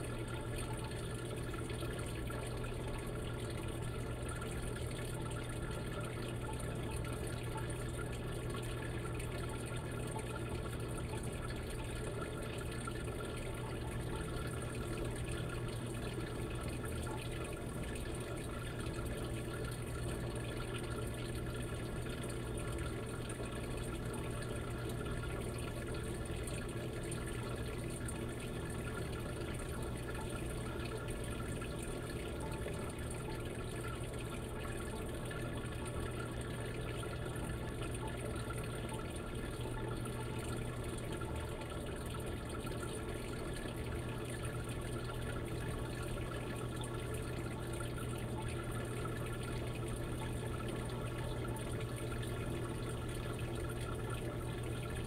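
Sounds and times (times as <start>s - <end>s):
low steady hum: 0.0s - 55.0s
water running into washing machine: 0.0s - 55.0s.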